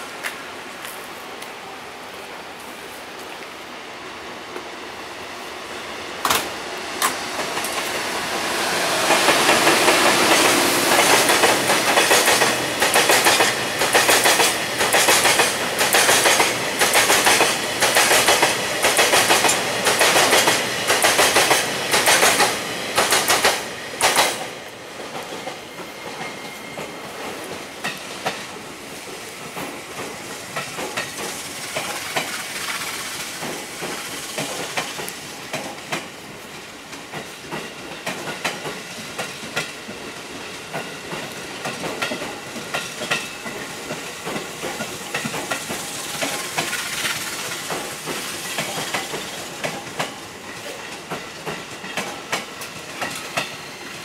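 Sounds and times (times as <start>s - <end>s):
train rumble: 0.0s - 53.9s
train wheels clacking on rails: 6.2s - 54.0s.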